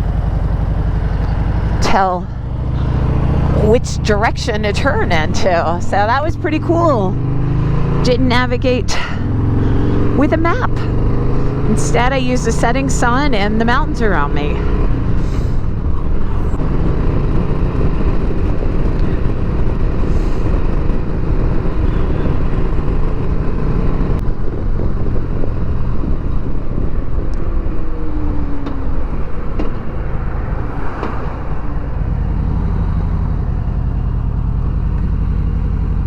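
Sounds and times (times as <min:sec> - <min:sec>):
motorcycle engine running: 0:00.0 - 0:36.0
road noise: 0:00.0 - 0:36.0.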